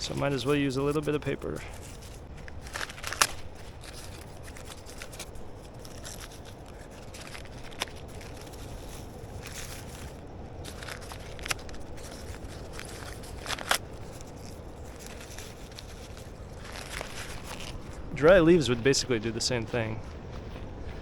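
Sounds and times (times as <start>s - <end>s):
low background rumble: 0.0s - 21.0s
paper tearing and crumpling: 0.1s - 18.0s.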